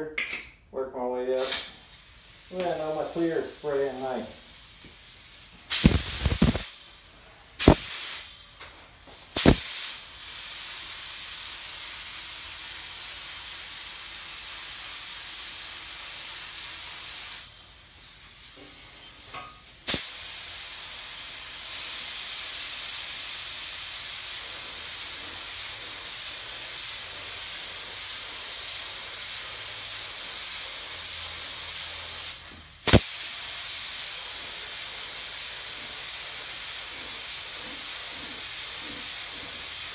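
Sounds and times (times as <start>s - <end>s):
paint spray gun hissing: 1.4s - 6.9s, 7.6s - 8.4s, 9.4s - 18.5s, 19.9s - 39.9s.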